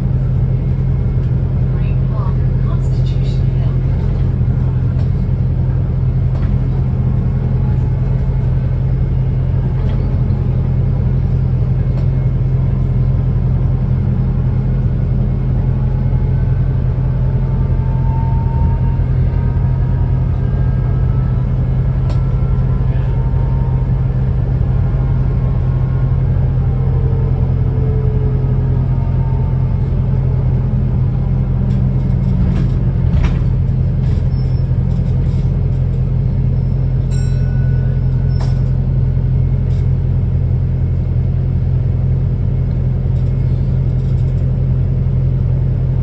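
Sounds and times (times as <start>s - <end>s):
diesel bus engine droning: 0.0s - 46.0s.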